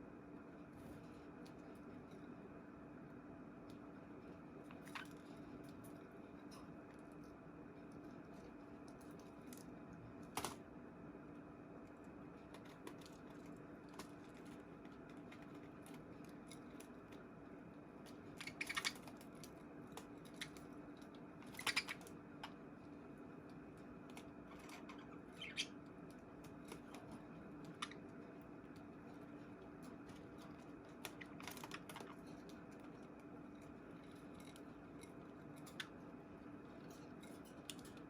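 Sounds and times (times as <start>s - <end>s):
faint steady hum: 0.0s - 38.0s
budgies clicking and tapping: 3.7s - 10.6s, 12.0s - 38.0s.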